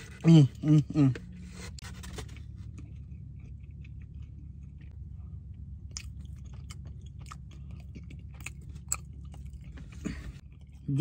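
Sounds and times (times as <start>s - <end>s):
low steady hum: 0.0s - 11.0s
person chewing food: 2.1s - 11.0s.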